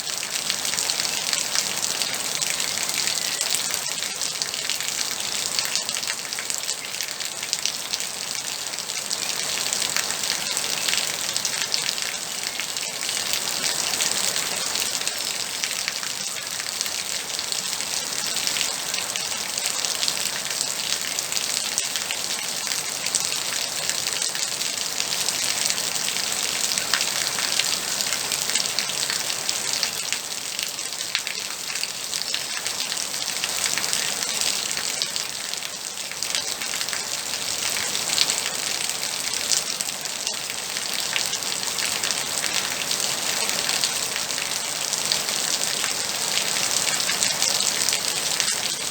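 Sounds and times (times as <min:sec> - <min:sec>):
steady rain patter: 0:00.0 - 0:48.9.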